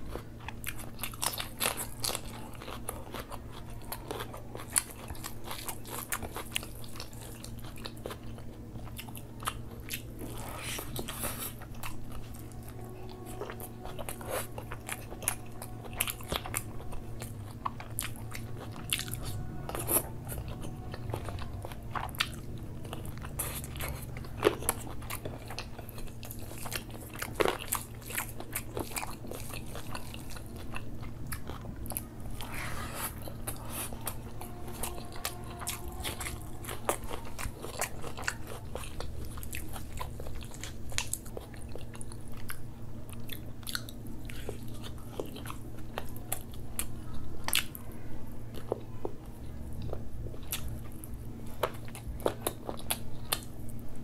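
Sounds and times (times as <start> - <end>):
chewing and crunching food: 0.0 - 54.0
low hum: 0.0 - 54.0.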